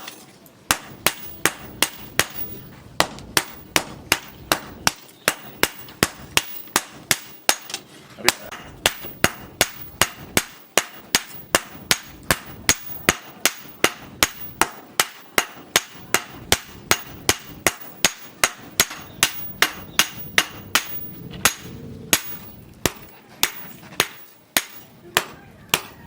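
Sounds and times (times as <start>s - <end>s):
hammer striking steel on anvil: 0.0s - 26.0s.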